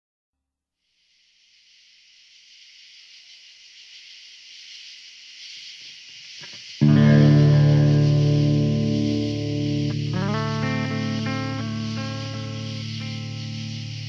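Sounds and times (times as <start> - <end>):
steady hiss: 0.8 - 14.0.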